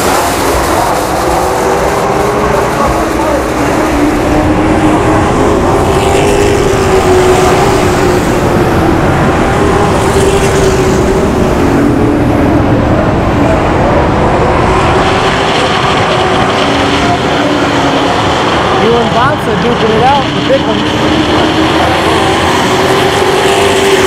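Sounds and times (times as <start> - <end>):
race truck engines: 0.0 - 24.0.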